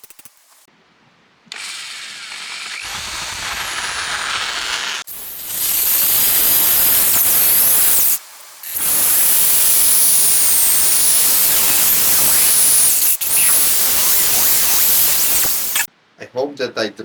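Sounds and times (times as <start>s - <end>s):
electric drill drilling: 1.5s - 15.9s.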